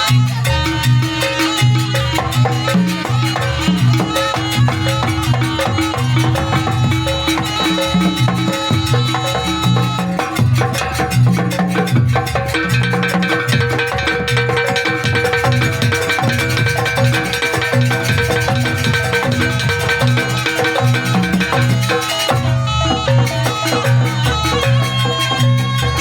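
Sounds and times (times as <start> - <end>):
hand drums beating: 0.0 - 26.0
ringing metal percussion: 0.0 - 26.0.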